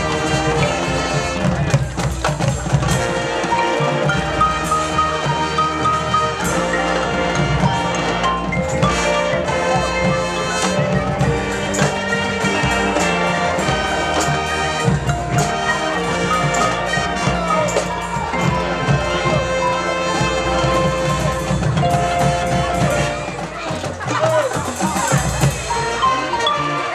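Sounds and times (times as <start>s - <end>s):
marching drums: 0.0s - 26.0s
brass holding chords: 0.0s - 26.9s.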